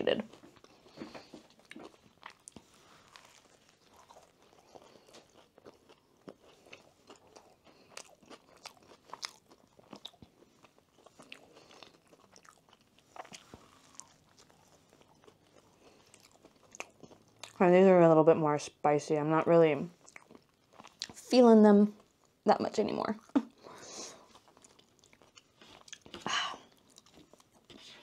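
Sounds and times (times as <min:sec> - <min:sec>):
crunchy chewing: 0:00.3 - 0:17.6, 0:20.0 - 0:21.3, 0:23.2 - 0:28.0.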